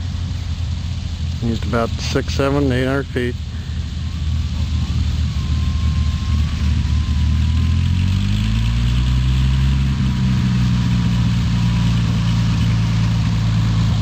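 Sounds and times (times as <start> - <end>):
light aircraft engine and propeller: 0.0 - 14.0.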